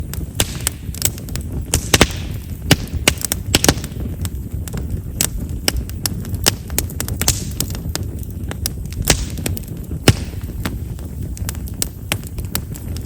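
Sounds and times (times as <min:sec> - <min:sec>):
firewood crackling and popping: 0:00.0 - 0:13.0
low rumble of flame: 0:00.0 - 0:13.0.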